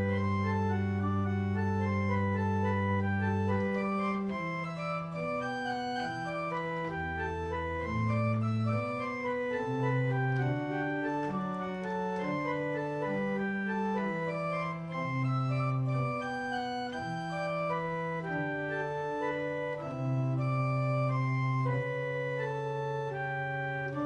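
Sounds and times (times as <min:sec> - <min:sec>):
pipe organ chords: 0:00.0 - 0:24.0.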